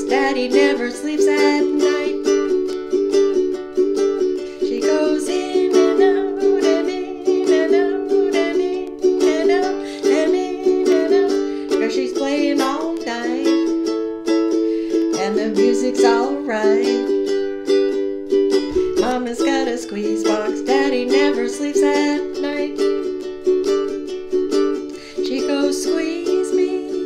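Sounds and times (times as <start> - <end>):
person singing wordless melody: 0.0 - 2.8, 4.2 - 13.9, 14.5 - 17.4, 18.9 - 23.1, 24.8 - 27.0
ukulele strumming: 0.0 - 27.0.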